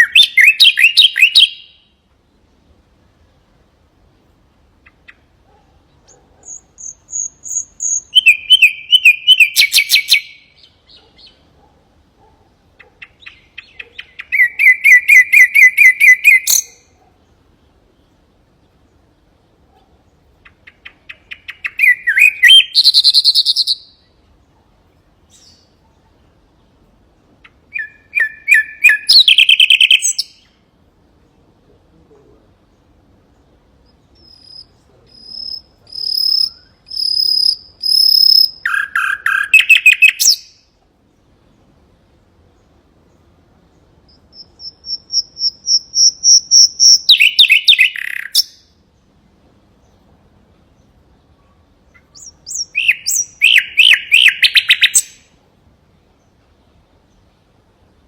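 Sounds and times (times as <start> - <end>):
nightingale singing: 0.0 - 2.6, 4.6 - 41.7, 42.4 - 50.1, 50.7 - 55.4.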